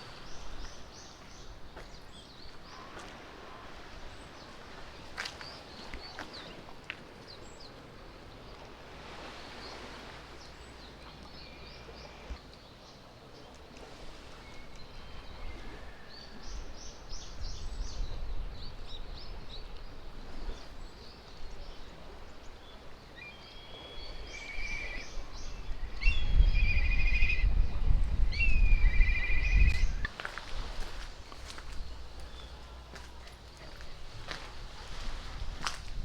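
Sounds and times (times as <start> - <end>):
birds chirping: 0.0 - 13.6, 14.4 - 35.2.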